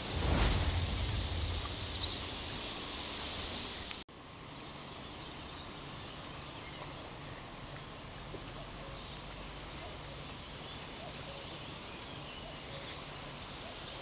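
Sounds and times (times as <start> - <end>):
steady hiss of background noise: 0.0 - 14.0.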